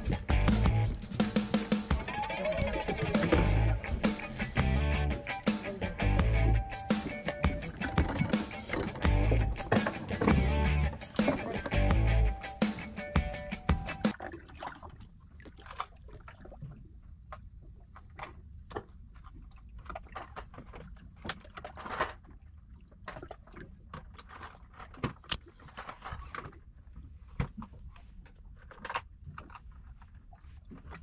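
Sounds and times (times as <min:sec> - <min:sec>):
wind and water against boat: 0:00.0 - 0:31.0.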